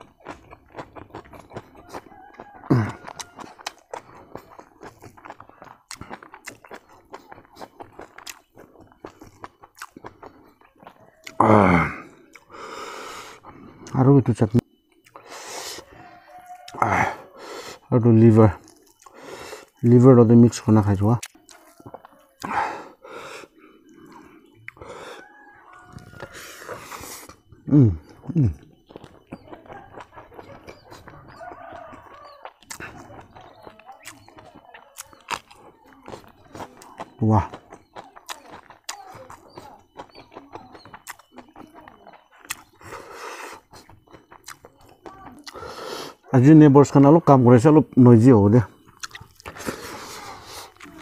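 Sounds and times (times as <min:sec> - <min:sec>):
person chewing food: 0:00.0 - 0:51.0.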